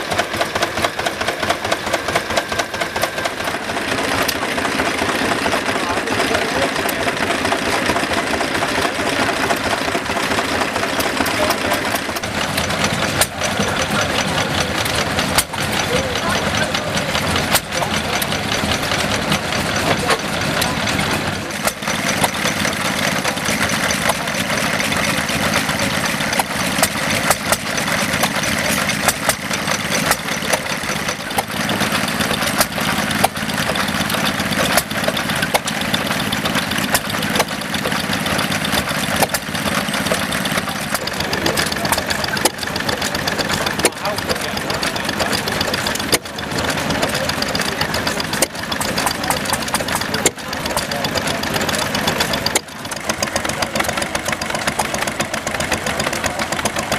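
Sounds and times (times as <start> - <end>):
stationary engine running: 0.0 - 56.9.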